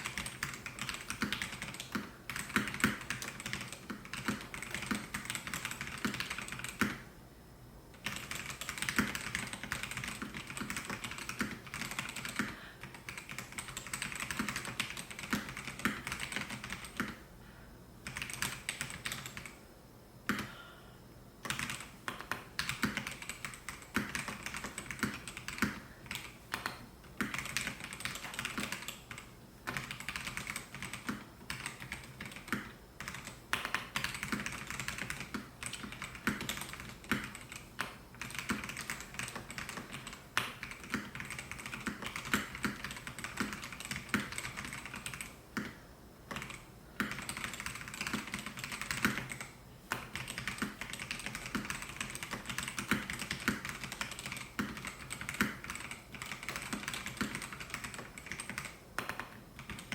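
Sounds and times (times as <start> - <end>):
mechanical keyboard typing: 0.0 - 7.0, 8.0 - 17.2, 18.0 - 19.6, 21.4 - 59.9.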